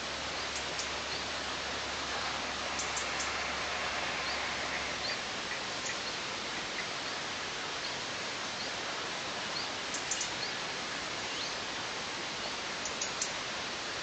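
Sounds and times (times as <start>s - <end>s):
small birds chirping: 0.0s - 3.4s, 4.1s - 8.8s, 9.4s - 11.7s, 12.4s - 13.5s
microphone hiss: 0.0s - 14.0s.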